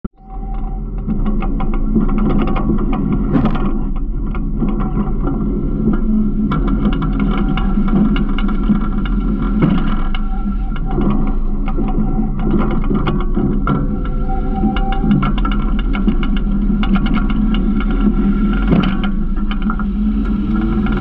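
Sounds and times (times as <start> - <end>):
small rattles and clanks: 0.3 - 21.0.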